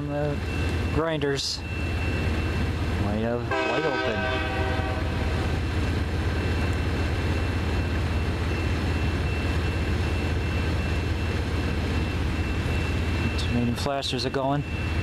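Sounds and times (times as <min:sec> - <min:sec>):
engine low rumble: 0:00.0 - 0:15.0
rail grinding noise: 0:00.0 - 0:15.0.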